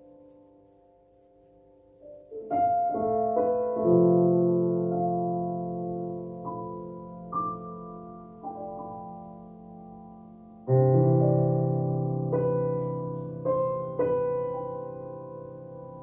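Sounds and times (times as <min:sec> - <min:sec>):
slow soft piano music: 0:00.0 - 0:16.0.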